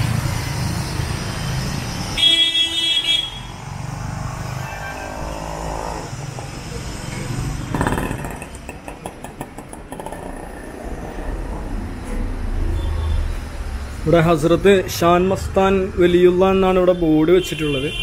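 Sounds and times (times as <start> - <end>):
street traffic engines: 0.0 - 18.0.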